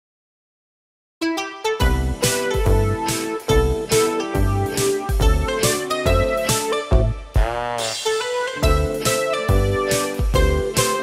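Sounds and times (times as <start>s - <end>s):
upbeat music with a beat: 1.2s - 11.0s.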